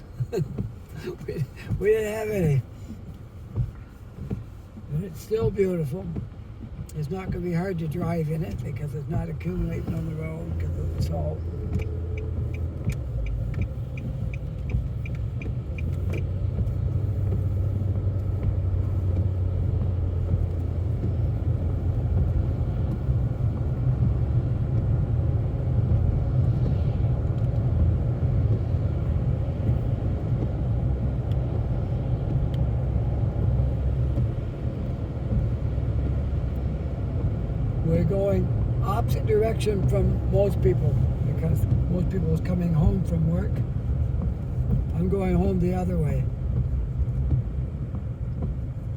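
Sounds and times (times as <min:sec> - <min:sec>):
car driving rumble inside cabin: 0:00.0 - 0:48.9
tyres on wet road: 0:00.0 - 0:48.9.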